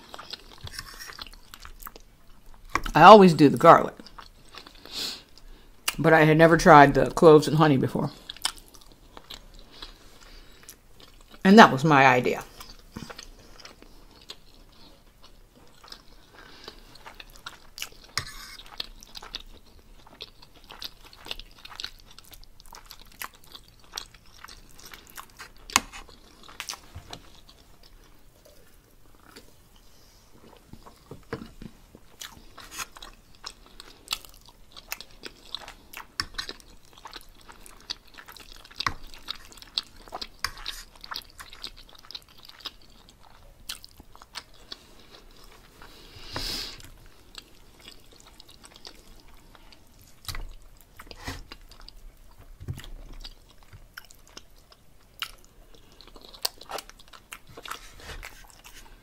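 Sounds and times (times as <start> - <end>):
chewing and wet mouth sounds: 0.0 - 6.1, 8.0 - 11.4, 12.5 - 59.0.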